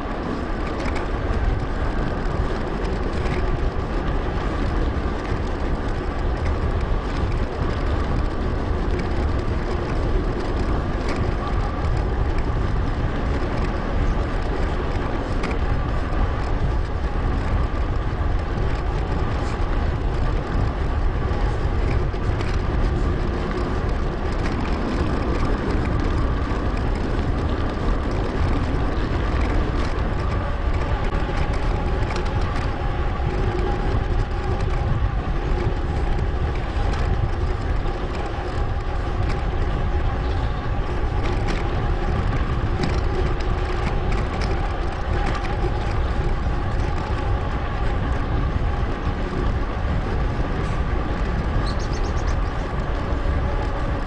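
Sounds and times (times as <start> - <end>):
bicycle tyre and drivetrain noise: 0.0 - 54.0
wind rushing over microphone: 0.0 - 54.0.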